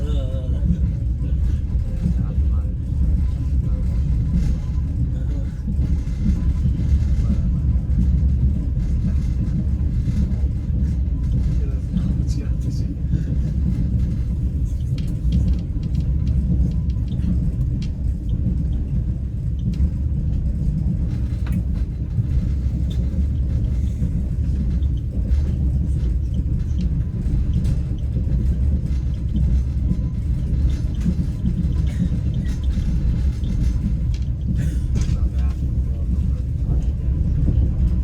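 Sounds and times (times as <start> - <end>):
train low rumble: 0.0 - 38.0.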